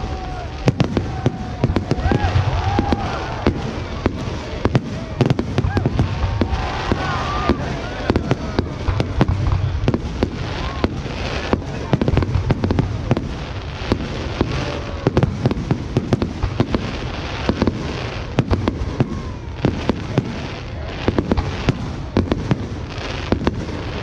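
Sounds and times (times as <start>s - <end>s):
low rumble of distant bursts: 0.0s - 22.9s
fireworks bangs and cracks: 0.0s - 24.0s.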